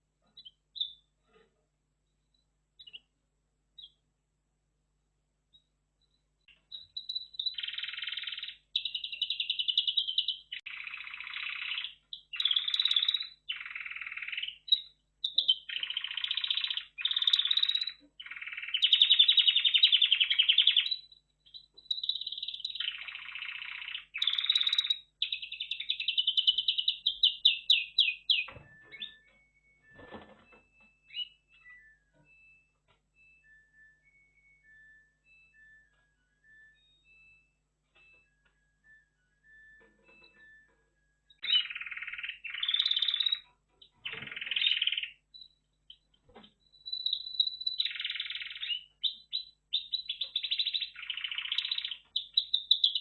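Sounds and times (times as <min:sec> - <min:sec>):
canary singing trills: 0:00.2 - 0:01.5, 0:02.3 - 0:03.2, 0:03.8 - 0:04.1, 0:05.5 - 0:53.0.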